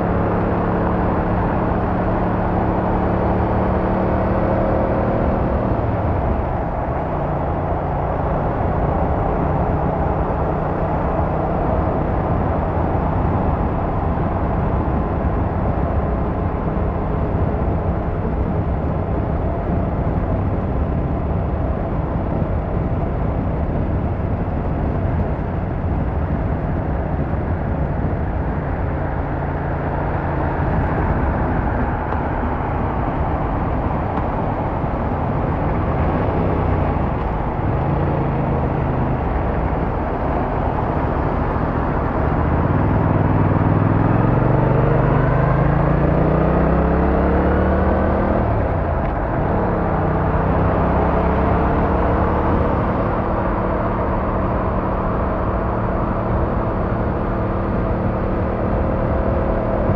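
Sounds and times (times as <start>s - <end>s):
car engine hum: 0.0s - 59.9s
road and tyre noise: 0.0s - 59.9s.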